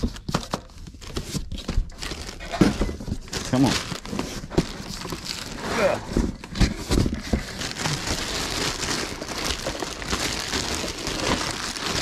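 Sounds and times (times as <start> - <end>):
plastic bag crinkling and rustling: 0.0 - 12.0.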